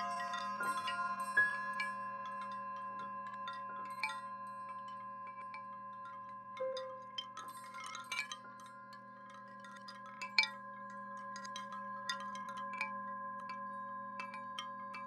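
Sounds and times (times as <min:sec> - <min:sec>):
chimes tinkling: 0:00.0 - 0:15.0.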